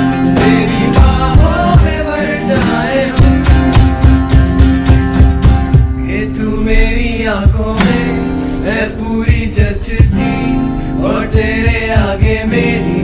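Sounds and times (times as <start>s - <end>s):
person singing: 0.0s - 3.8s, 6.0s - 13.0s
acoustic guitar: 0.0s - 13.0s
percussion: 0.0s - 13.0s.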